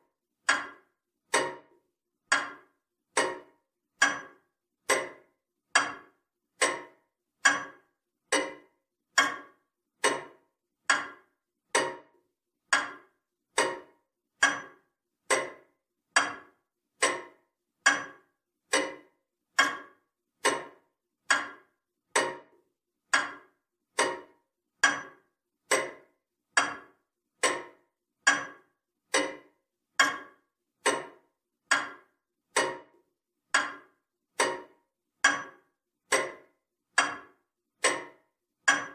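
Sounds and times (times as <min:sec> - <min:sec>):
clock ticking: 0:00.4 - 0:38.9.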